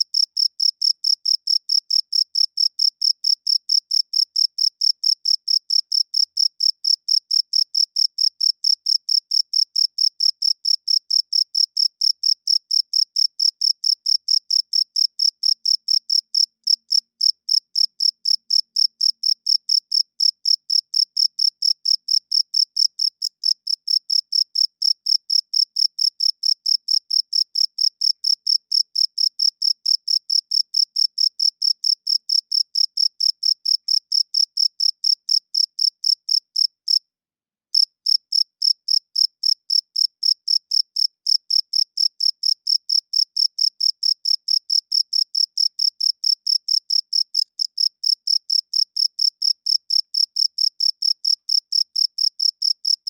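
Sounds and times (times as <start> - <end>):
cricket chirping: 0.0 - 37.0, 37.8 - 53.0.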